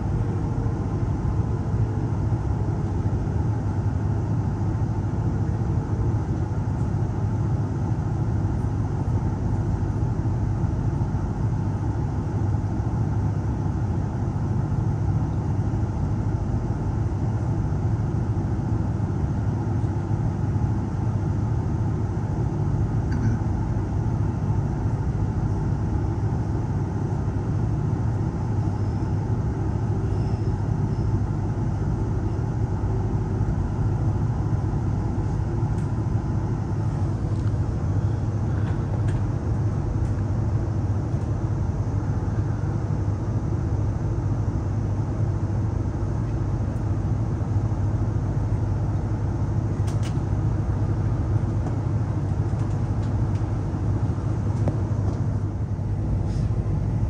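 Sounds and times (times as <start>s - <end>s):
electric train rumble: 0.0s - 57.0s.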